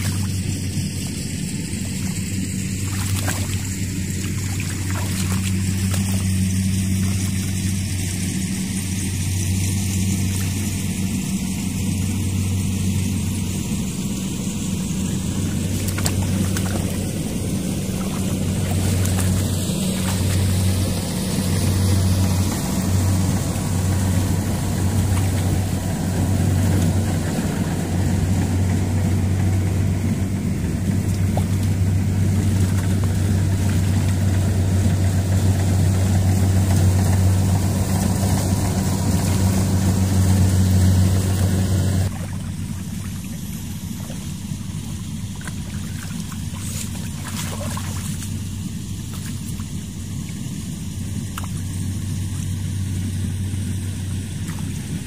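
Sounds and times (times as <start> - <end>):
continuous hiss: 0.0 - 55.0
engine humming: 0.0 - 55.0.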